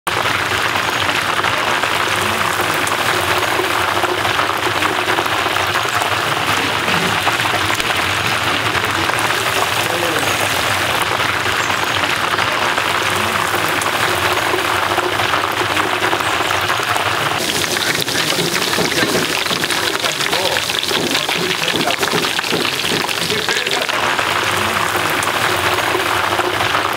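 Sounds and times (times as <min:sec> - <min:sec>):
oil sizzling and crackling: 0:00.1 - 0:26.9.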